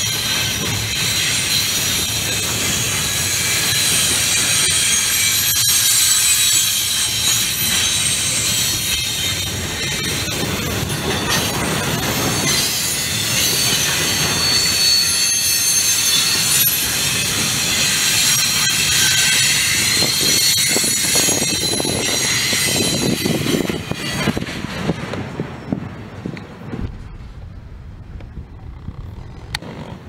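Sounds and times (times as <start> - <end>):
train wheels squealing: 0.0 - 24.7
train cars rumbling: 0.0 - 30.0.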